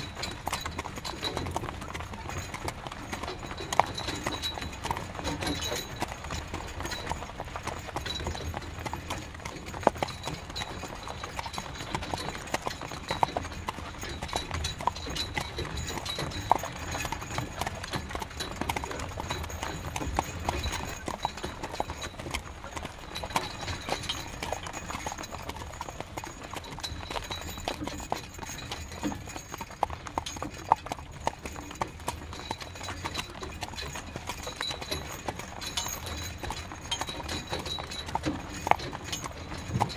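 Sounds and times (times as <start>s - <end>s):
horse hooves clip-clopping: 0.0s - 39.9s.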